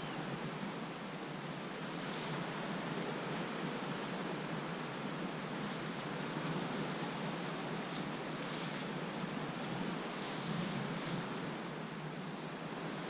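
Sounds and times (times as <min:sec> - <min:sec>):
waves on a lake: 0:00.0 - 0:13.0
wind: 0:00.0 - 0:13.0.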